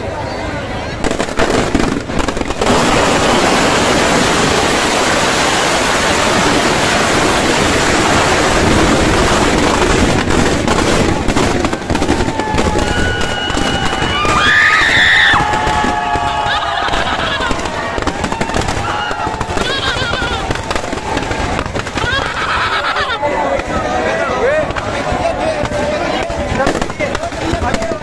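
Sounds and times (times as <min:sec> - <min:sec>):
whistling fireworks: 0:00.7 - 0:28.0
firecrackers banging and crackling: 0:01.0 - 0:28.0.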